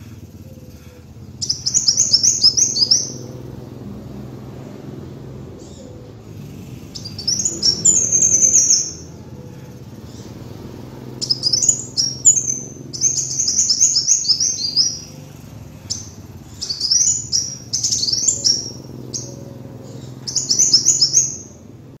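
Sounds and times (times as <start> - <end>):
bird singing: 0.0 - 22.0
faint low hum: 0.0 - 22.0.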